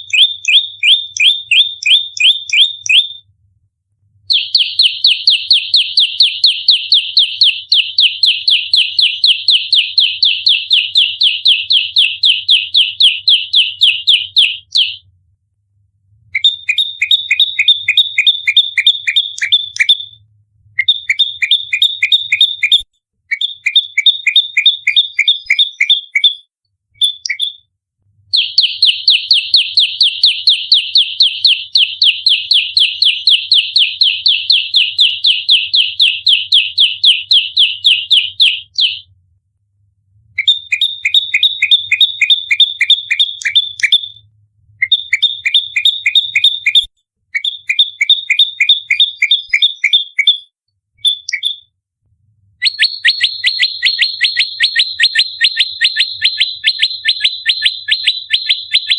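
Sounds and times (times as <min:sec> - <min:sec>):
bird singing rapid chirps: 0:00.0 - 0:03.2, 0:04.3 - 0:15.0, 0:16.4 - 0:20.2, 0:20.8 - 0:27.7, 0:28.3 - 0:39.0, 0:40.4 - 0:44.2, 0:44.8 - 0:51.7, 0:52.6 - 0:58.9.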